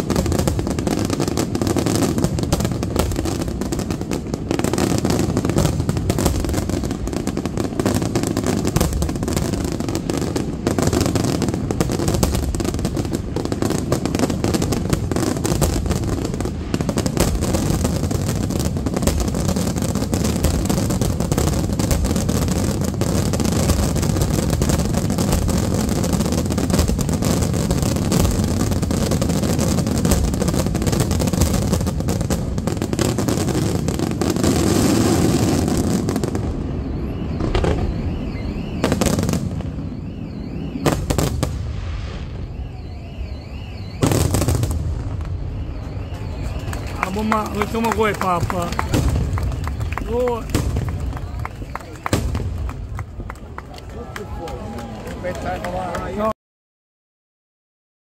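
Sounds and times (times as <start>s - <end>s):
sharp firework cracks: 0.0s - 42.8s, 44.0s - 53.8s
fireworks bursting: 0.0s - 56.3s.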